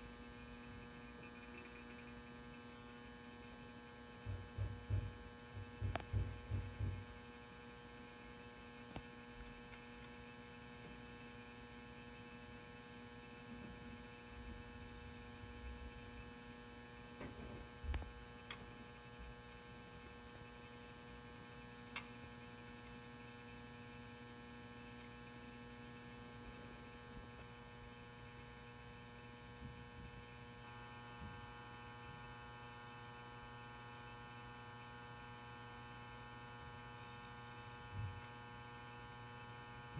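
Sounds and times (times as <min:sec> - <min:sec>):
electrical lamp hum: 0:00.0 - 0:39.9.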